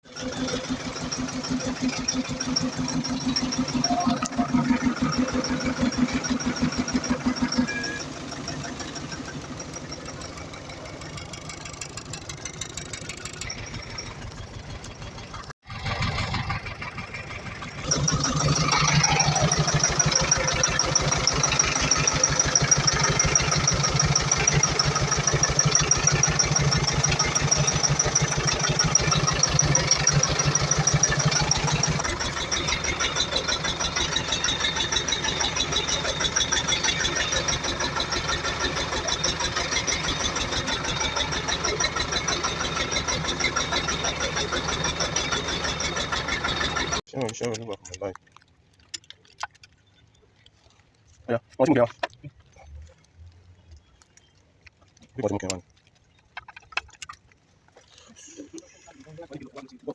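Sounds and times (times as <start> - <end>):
diesel engine idling roughly: 0.0 - 47.1, 57.9 - 59.9.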